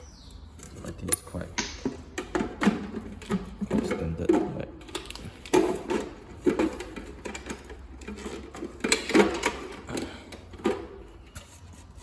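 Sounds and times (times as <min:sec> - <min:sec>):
plastic parts knocking: 0:01.0 - 0:11.1.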